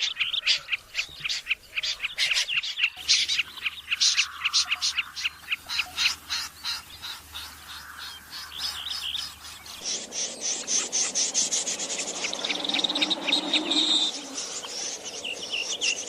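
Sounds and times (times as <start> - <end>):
harsh rasping bird calls: 0.0 - 16.0.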